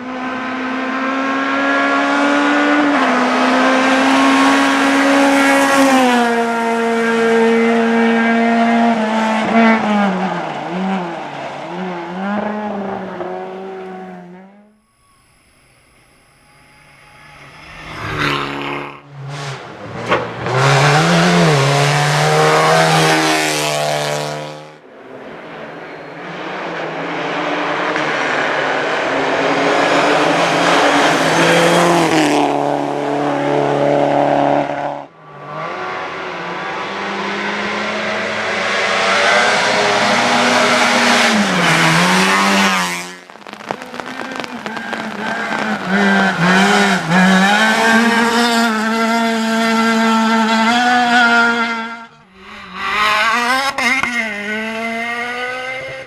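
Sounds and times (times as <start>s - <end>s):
rally car engines revving: 0.0s - 14.8s, 15.6s - 56.0s.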